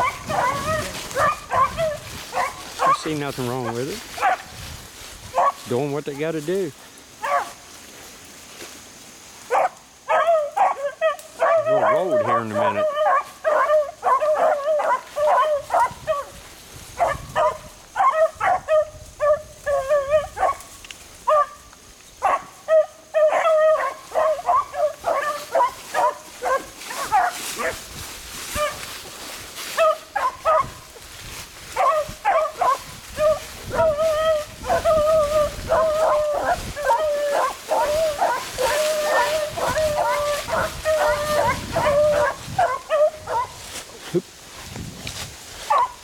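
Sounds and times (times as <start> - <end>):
hounds barking and howling: 0.0 - 4.6, 5.3 - 5.8, 7.2 - 7.6, 9.5 - 29.0, 29.6 - 43.8, 45.6 - 46.0
brush rustling underfoot: 0.0 - 46.0.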